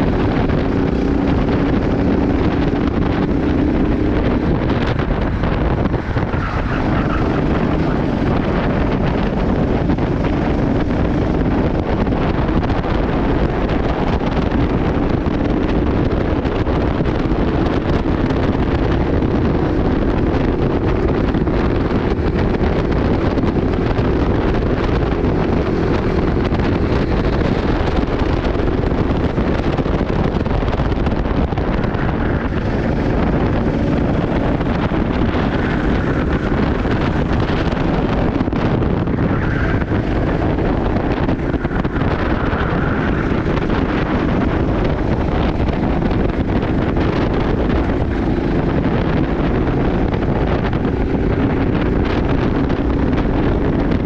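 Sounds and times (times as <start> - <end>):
racing kart engine running: 0.0 - 54.0
wind noise on microphone: 0.0 - 54.0.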